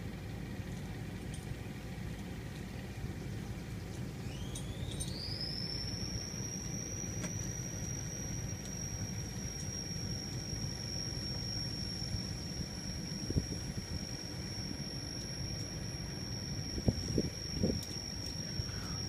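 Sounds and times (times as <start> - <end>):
high-pitched machine whine: 0.0 - 19.0
machine low rumble: 0.0 - 19.0.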